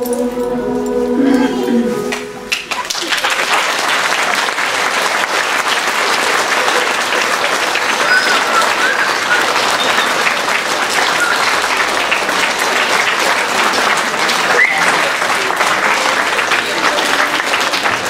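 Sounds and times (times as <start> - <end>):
audience applauding: 2.1 - 18.0.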